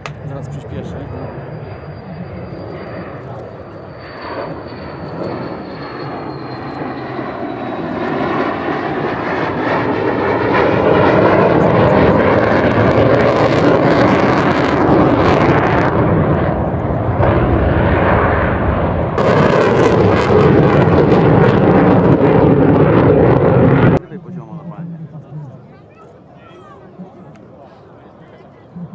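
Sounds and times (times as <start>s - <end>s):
high whine falling in pitch: 0.0s - 9.1s, 11.3s - 27.6s, 28.3s - 28.9s
jet flying past: 0.0s - 28.9s.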